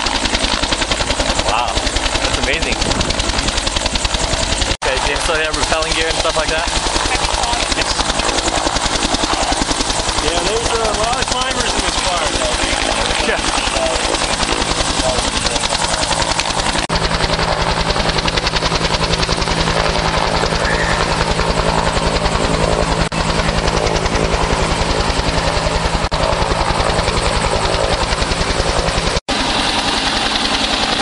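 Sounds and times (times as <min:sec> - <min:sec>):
helicopter engine drone: 0:00.0 - 0:31.0
helicopter rotor beating: 0:00.0 - 0:31.0.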